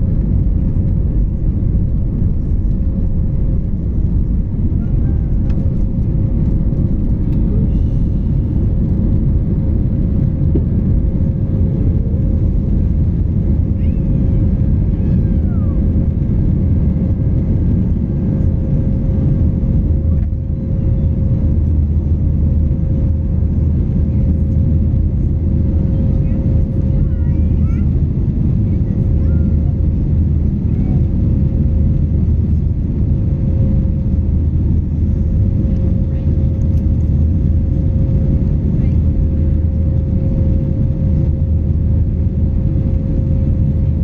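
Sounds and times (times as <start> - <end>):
jet engine whine: 0.0 - 44.0
jet engines low rumble: 0.0 - 44.0.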